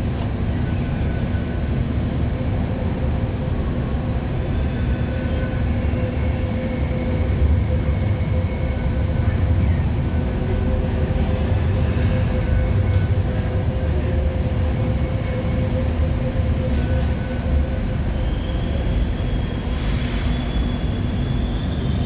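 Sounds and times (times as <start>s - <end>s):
light rail car rumbling: 0.0s - 22.0s.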